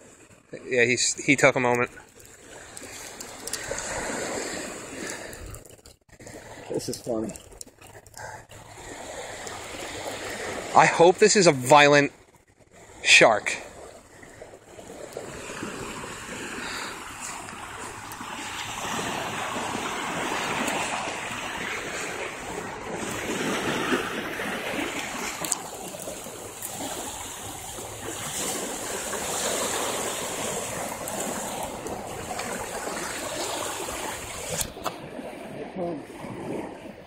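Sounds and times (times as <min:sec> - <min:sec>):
small waves washing onto shore: 0:00.0 - 0:37.0.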